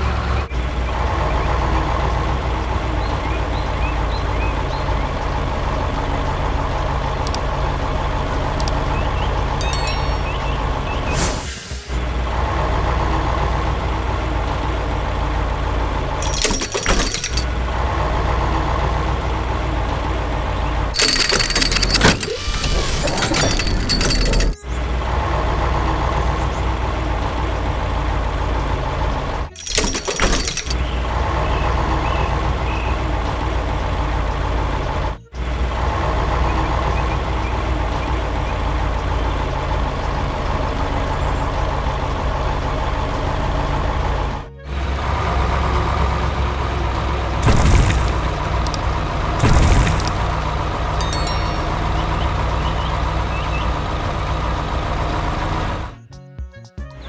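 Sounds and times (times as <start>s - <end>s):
heavy vehicle engine rumbling: 0.0s - 56.1s.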